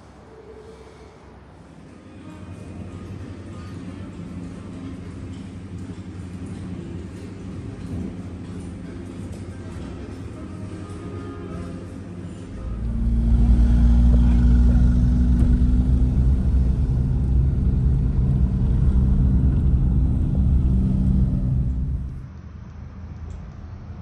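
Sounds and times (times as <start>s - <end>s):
road vehicle rumble: 0.0s - 24.0s.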